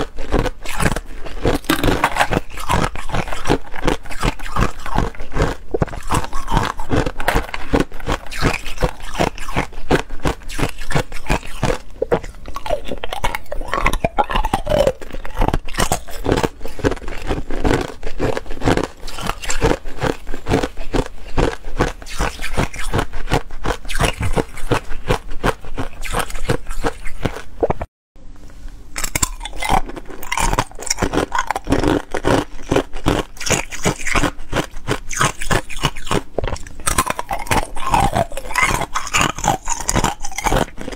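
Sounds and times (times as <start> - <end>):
ice being crunched and chewed: 0.0 - 27.9, 29.0 - 40.9.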